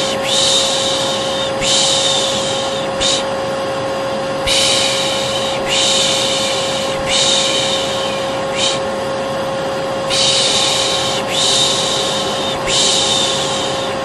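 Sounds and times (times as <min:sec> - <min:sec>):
person shushing: 0:00.0 - 0:03.3, 0:04.4 - 0:08.9, 0:10.1 - 0:14.0
vacuum cleaner droning: 0:00.0 - 0:14.0.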